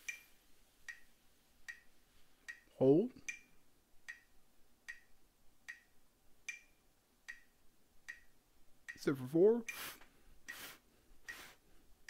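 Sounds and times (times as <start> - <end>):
metronome ticking: 0.0 - 10.6, 11.2 - 11.5.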